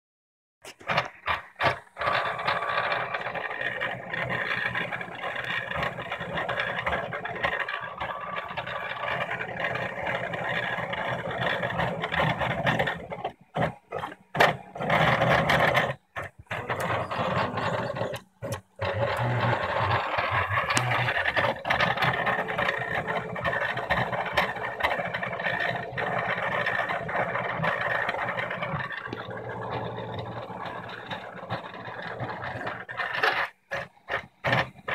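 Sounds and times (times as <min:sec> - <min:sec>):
printer stepper motors whirring: 0:00.7 - 0:34.9.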